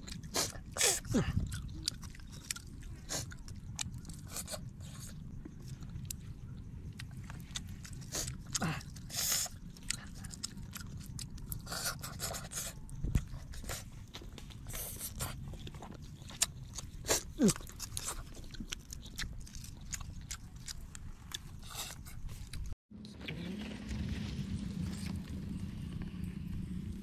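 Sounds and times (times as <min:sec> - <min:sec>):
chewing: 0:00.0 - 0:22.8.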